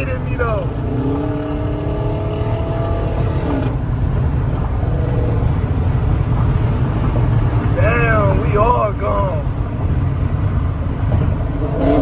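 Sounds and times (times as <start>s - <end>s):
car engine accelerating: 0.0s - 12.0s
low road and exhaust rumble: 0.0s - 12.0s.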